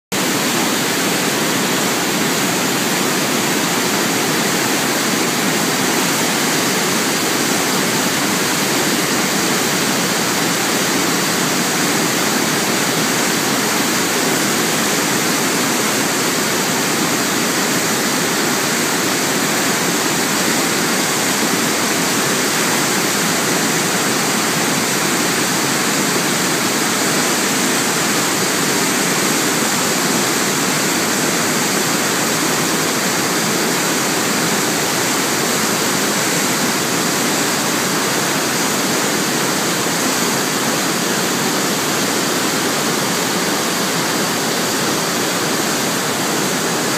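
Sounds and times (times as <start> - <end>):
river rushing through rapids: 0.2 - 46.9.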